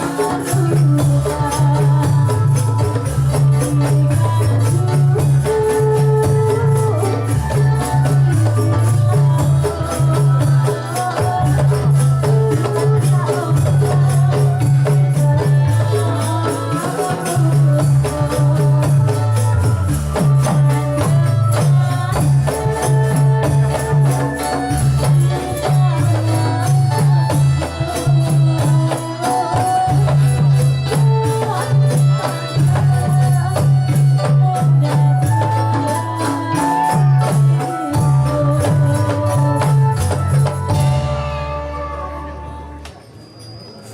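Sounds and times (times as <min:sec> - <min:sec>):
jingling percussion: 0:00.0 - 0:43.9.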